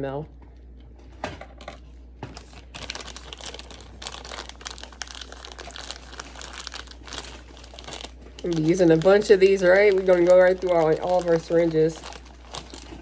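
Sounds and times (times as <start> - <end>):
plastic packaging crinkling: 2.2 - 13.0.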